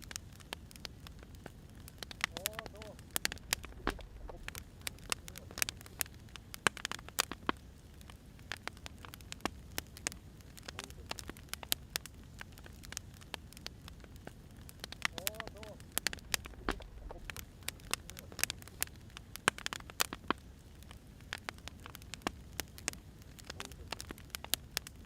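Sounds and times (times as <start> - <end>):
firewood crackling and popping: 0.0 - 25.0
low steady hiss: 0.0 - 25.0.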